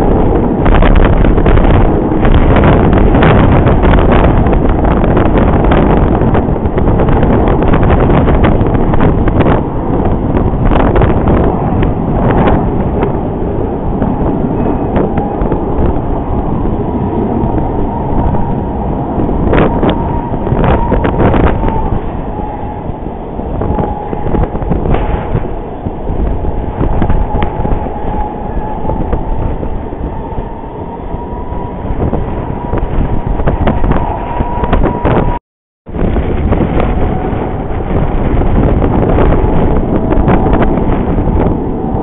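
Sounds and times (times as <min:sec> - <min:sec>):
jet airliner engines rumbling: 0:00.0 - 0:42.0
wind buffeting microphone: 0:00.0 - 0:42.0.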